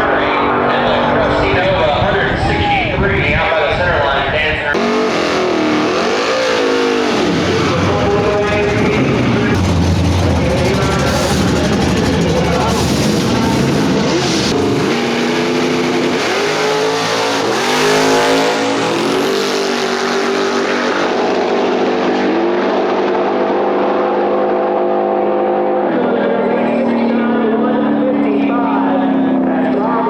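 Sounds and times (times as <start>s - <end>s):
car engines accelerating: 0.0s - 30.0s.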